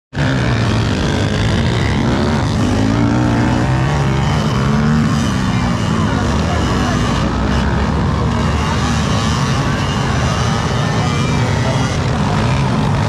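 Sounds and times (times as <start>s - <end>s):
dirt bike engines revving: 0.2s - 13.0s.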